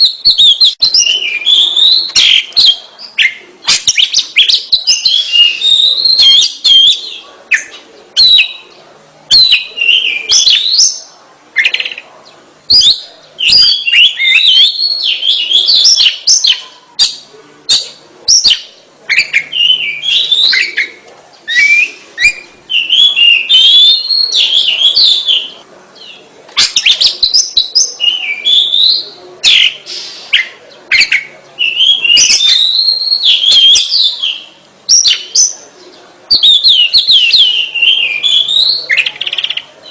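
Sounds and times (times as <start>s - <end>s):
bird singing whistled phrases: 0.0s - 8.7s, 9.3s - 12.0s, 12.7s - 25.6s, 26.6s - 35.6s, 36.3s - 39.6s.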